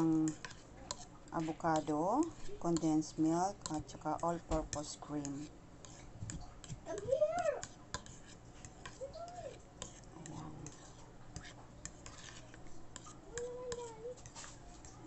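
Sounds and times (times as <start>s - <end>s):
spoon stirring thick mixture: 0.0s - 15.0s.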